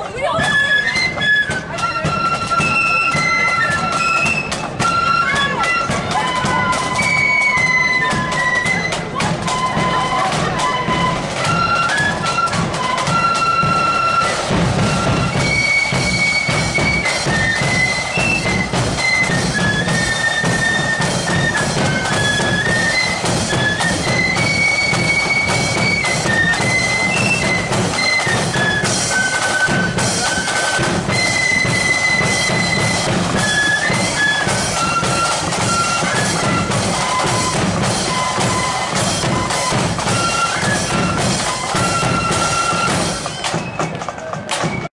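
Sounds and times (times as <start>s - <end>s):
drums beating a march: 0.0s - 44.9s
flutes playing in unison: 0.0s - 44.9s.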